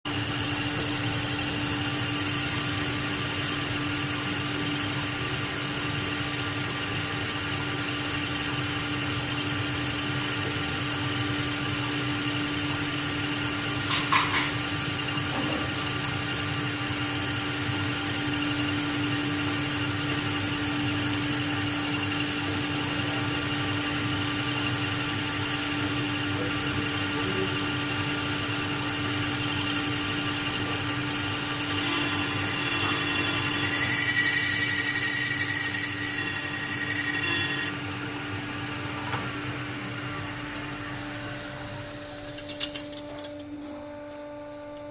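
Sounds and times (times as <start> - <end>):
steady mechanical hum: 0.1 - 44.9.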